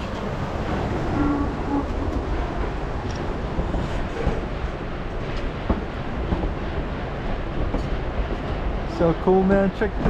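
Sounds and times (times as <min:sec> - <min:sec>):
train rumbling along track: 0:00.0 - 0:10.0.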